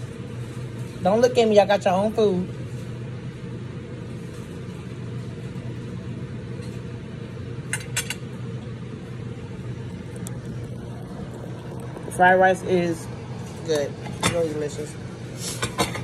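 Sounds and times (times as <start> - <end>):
blower fan humming: 0.0 - 16.0.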